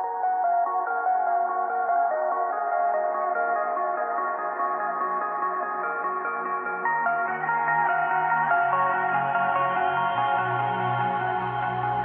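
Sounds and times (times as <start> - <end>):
melody over sustained chords: 0.0 - 12.0.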